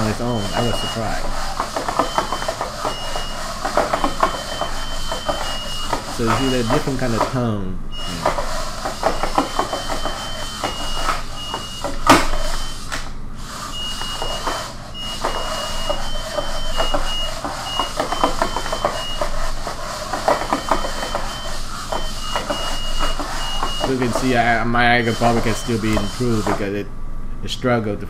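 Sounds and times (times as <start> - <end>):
robot beeping: 0.0 - 7.3, 7.9 - 12.9, 13.7 - 26.5.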